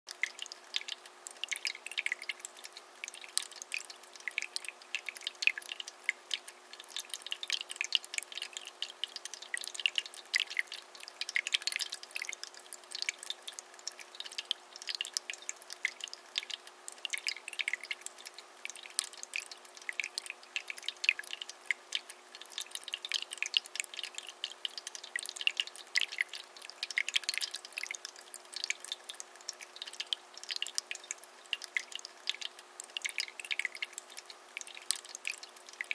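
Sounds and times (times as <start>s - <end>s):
fountain water trickling: 0.1s - 35.9s.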